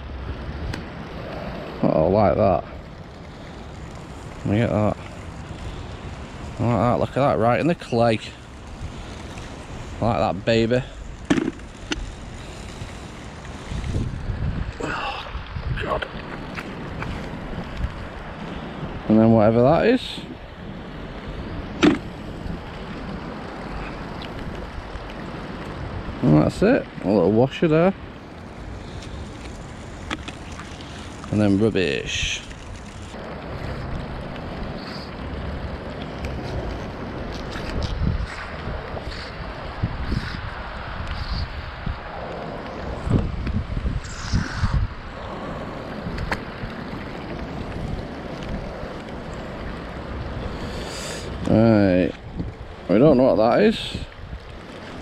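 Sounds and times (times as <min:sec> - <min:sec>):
wind and rain on microphone: 0:00.0 - 0:55.0.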